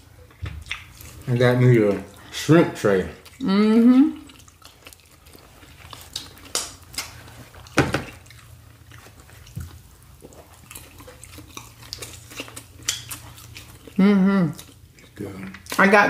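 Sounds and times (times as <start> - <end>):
wet chewing and mouth sounds: 0.0 - 16.0.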